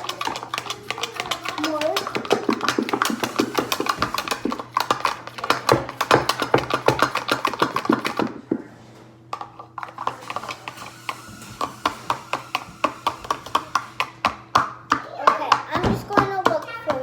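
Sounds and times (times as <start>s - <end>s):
utensil stirring slime in container: 0.0s - 8.6s, 9.3s - 17.0s.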